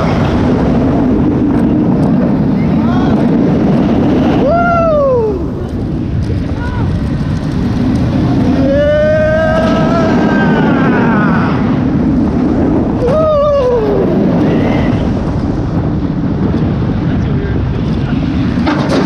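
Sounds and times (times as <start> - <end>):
roller coaster track rumble: 0.0 - 19.0
wind rush over microphone: 0.0 - 19.0.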